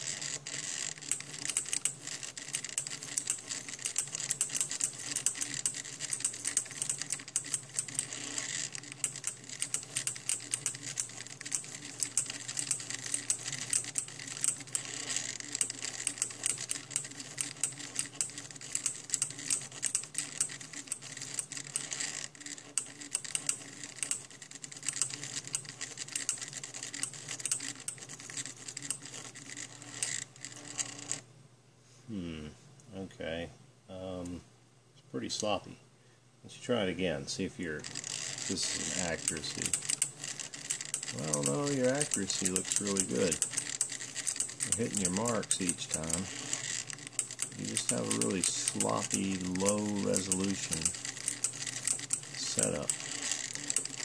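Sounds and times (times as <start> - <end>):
stepper motors clicking: 0.0 - 31.2, 37.7 - 54.0.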